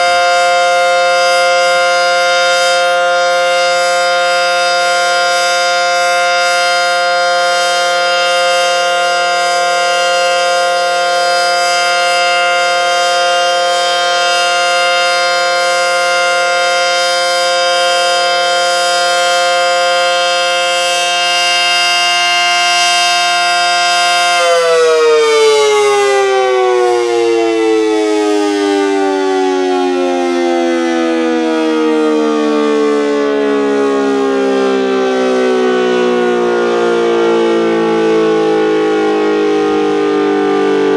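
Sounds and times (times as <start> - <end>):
warning siren winding down: 0.0 - 40.9.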